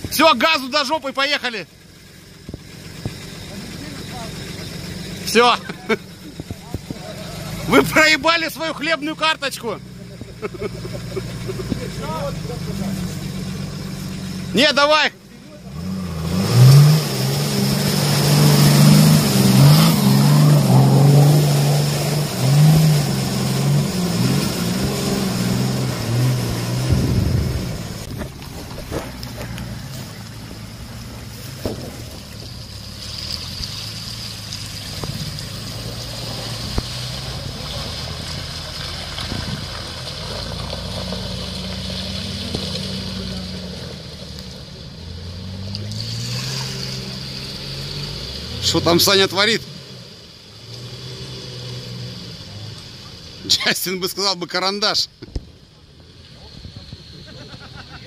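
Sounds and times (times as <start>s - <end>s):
suv engine revving: 0.0s - 58.0s.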